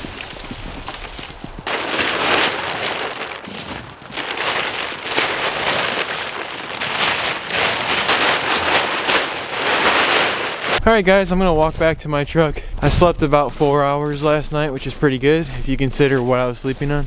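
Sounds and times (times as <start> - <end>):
wind gusting: 0.0 - 16.6.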